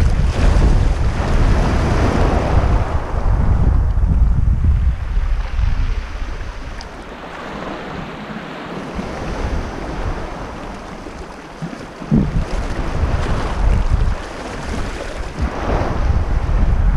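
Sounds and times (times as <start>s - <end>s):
small waves washing on shore: 0.0s - 4.0s, 4.8s - 16.9s
wind buffeting microphone: 0.0s - 16.9s.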